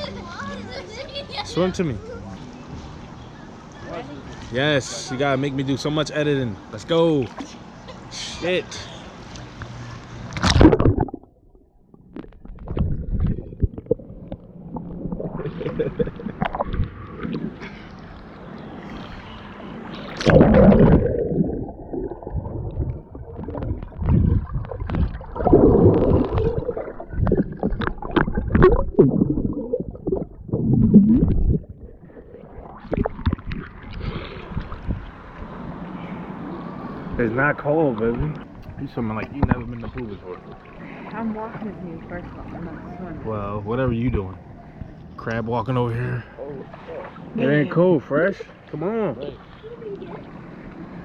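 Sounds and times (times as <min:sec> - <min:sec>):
pool water splashing: 0:00.0 - 0:51.0.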